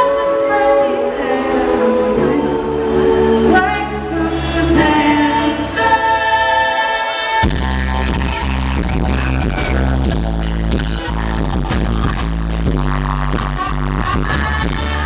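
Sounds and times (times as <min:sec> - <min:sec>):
band playing: 0:00.0 - 0:15.0.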